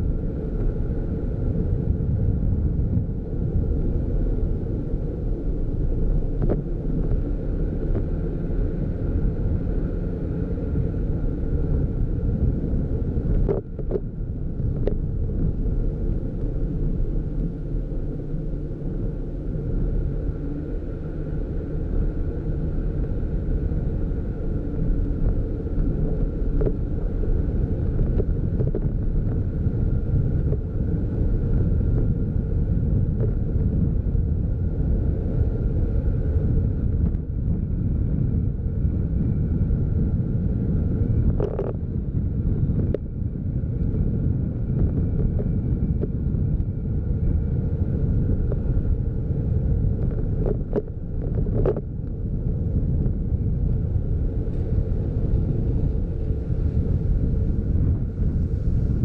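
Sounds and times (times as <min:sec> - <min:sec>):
vehicle rumbling on paved road: 0:00.0 - 0:59.0
wind buffeting microphone: 0:00.0 - 0:59.0.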